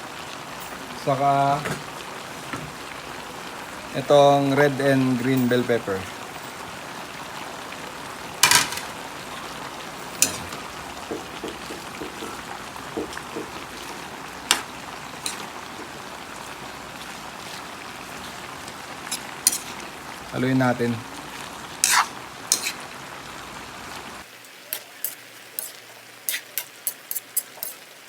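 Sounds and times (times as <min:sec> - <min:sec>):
vegetables simmering in a pan: 0:00.0 - 0:28.0.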